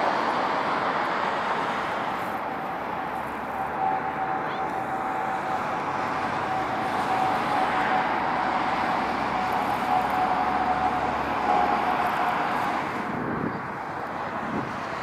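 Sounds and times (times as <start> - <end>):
jet roar with whine: 0.0 - 15.0.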